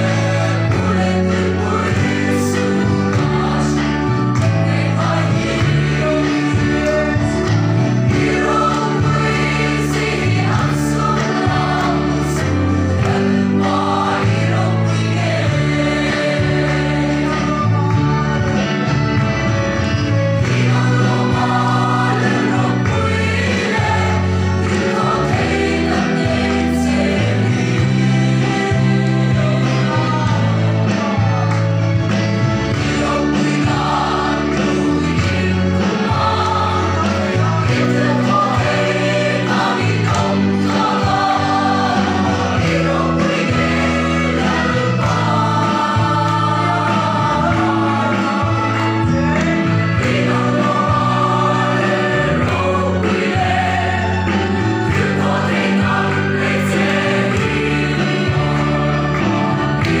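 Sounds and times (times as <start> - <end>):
mixed choir singing in harmony: 0.0 - 60.0.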